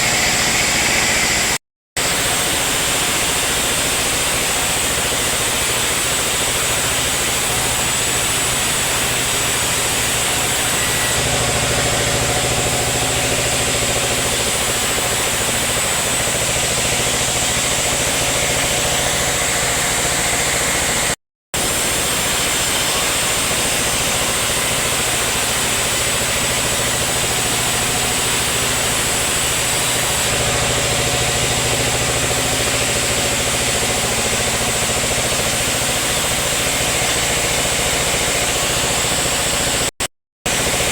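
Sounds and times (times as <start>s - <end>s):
sawmill engine drone: 0.0s - 39.9s, 40.5s - 40.9s.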